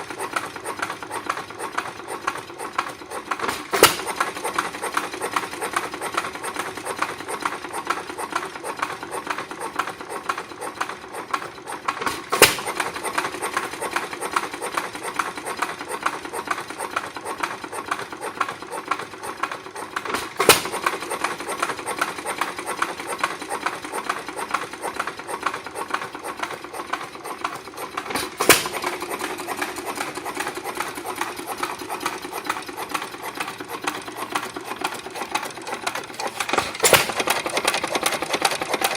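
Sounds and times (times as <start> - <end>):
gas engine mechanical clatter: 0.0 - 38.9.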